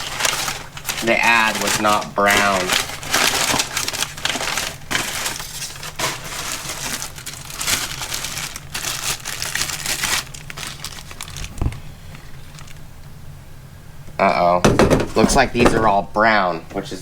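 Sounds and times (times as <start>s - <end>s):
paper and cardboard rustling: 0.0s - 12.8s, 14.6s - 16.2s.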